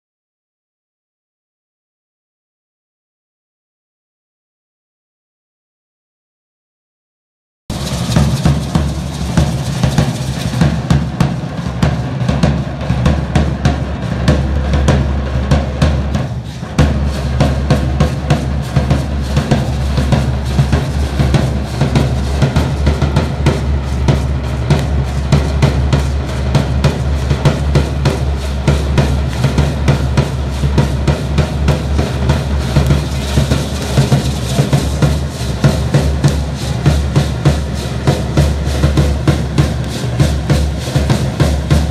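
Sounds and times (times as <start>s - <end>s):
deep bass drum strokes: 7.7s - 41.9s
drums beating fast rhythm: 7.7s - 41.9s.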